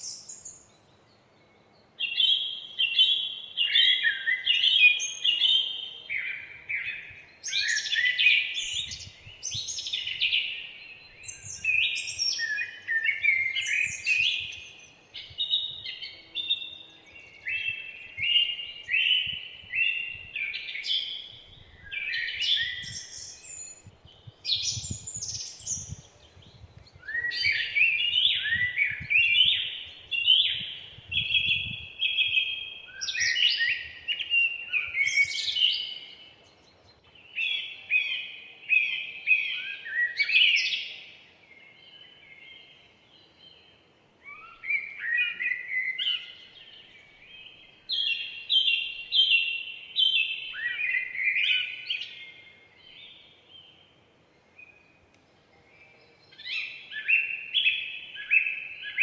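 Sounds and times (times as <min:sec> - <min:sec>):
songbirds chirping and warbling: 0:00.0 - 0:59.0.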